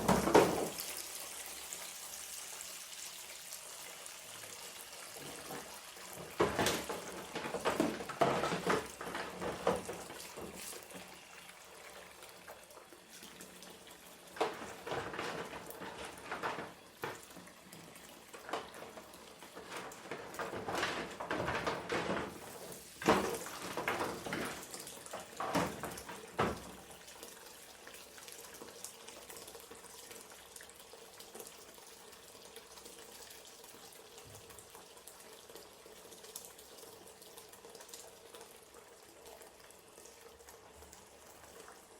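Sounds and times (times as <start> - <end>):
water running from tap: 0.0 - 41.9.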